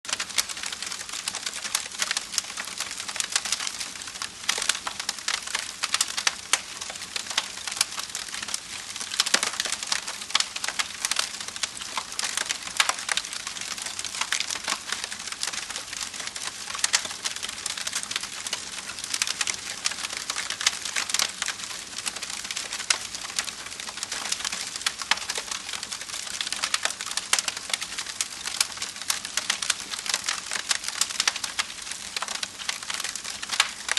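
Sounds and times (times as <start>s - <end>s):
wood fire crackling: 0.1s - 33.9s.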